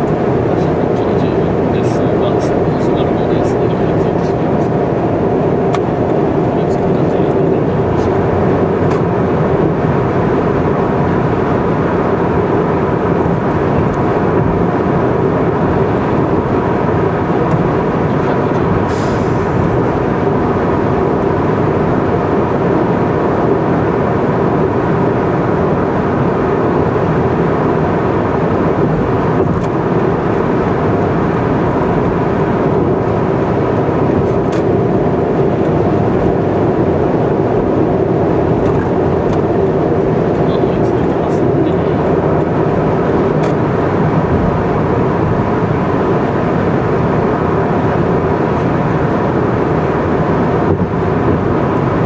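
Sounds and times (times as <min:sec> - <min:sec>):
car road noise: 0:00.0 - 0:52.0.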